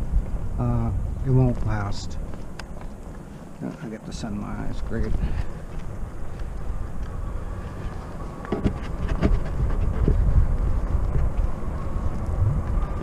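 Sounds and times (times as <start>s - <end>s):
faint motor whine: 0.0s - 13.0s
tyre noise: 0.0s - 13.0s
wind rumble on microphone: 0.0s - 13.0s.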